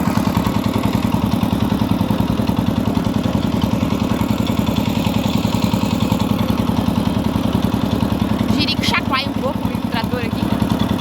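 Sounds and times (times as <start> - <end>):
tractor engine chugging: 0.0 - 11.0.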